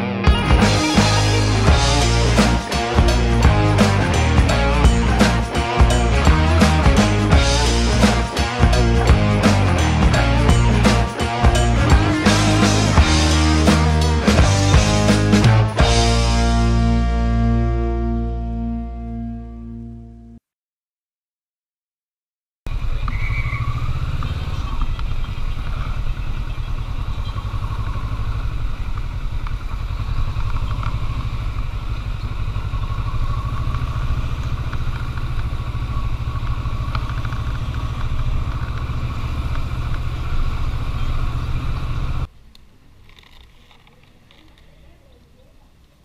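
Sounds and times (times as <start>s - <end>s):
motorcycle engine rumble: 0.0s - 20.1s, 22.7s - 46.0s.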